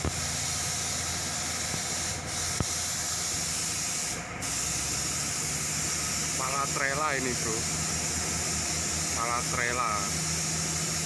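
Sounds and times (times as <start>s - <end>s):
diesel engine idling: 0.0s - 11.0s
steady hiss: 0.1s - 11.0s.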